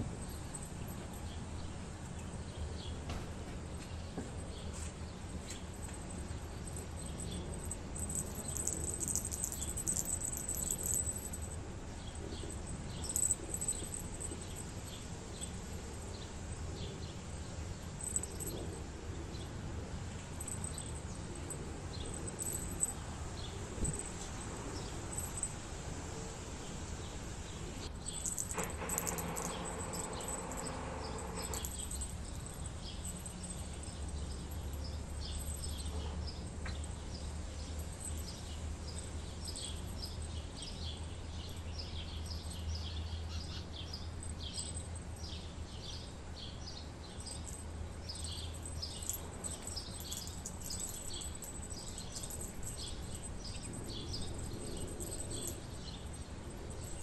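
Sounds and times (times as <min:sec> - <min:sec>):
low steady rumble: 0:00.0 - 0:57.0
small birds chirping: 0:00.2 - 0:57.0.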